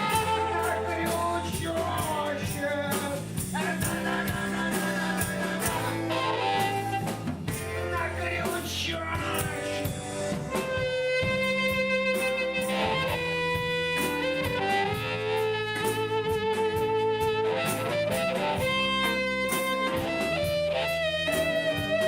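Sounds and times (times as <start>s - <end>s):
drum kit: 0.0s - 22.0s
guitar: 0.0s - 22.0s
lead line of held notes: 0.0s - 22.0s.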